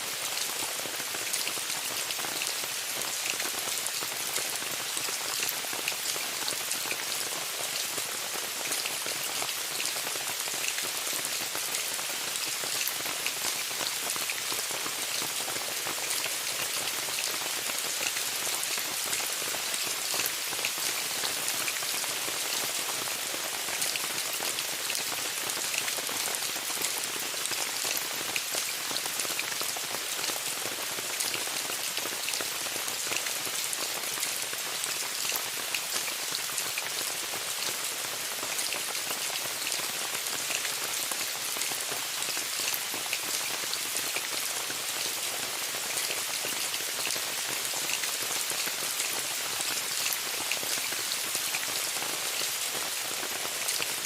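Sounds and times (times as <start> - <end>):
rain falling on a tent: 0.0 - 54.0.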